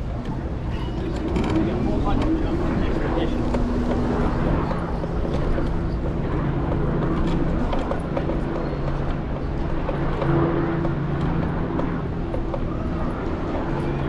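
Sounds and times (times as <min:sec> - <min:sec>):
city street traffic: 0:00.0 - 0:14.0
scooter motor hum: 0:00.0 - 0:14.0.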